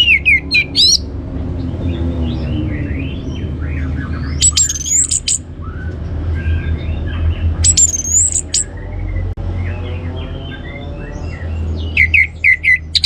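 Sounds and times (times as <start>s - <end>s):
thrush singing: 0.0s - 13.0s.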